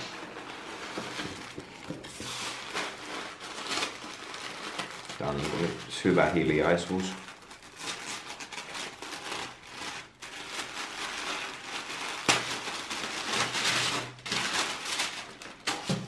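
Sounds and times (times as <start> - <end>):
tissue paper and plastic crinkling: 0.0 - 16.0.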